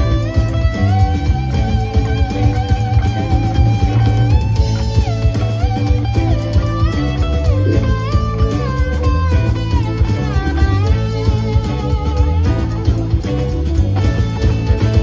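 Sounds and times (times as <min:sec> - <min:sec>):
lead electric guitar sliding notes: 0:00.0 - 0:15.0
live rock band playing: 0:00.0 - 0:15.0.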